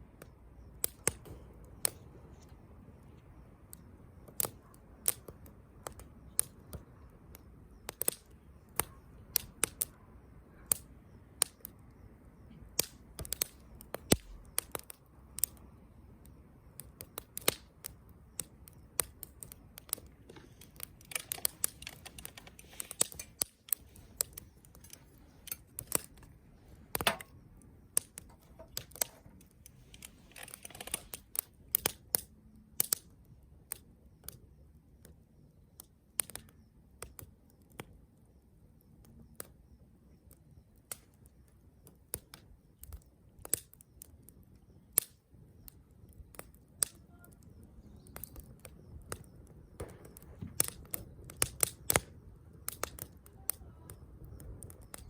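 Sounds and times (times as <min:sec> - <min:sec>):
campfire crackling and popping: 0:00.1 - 0:55.0.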